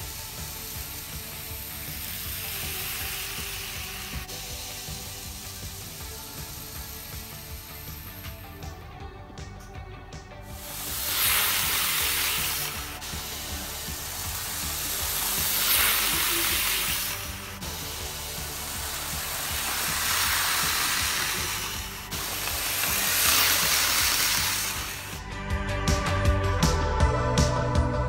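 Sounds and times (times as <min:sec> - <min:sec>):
model train running on track: 0:00.0 - 0:08.7, 0:10.6 - 0:25.1
background music: 0:00.0 - 0:28.0.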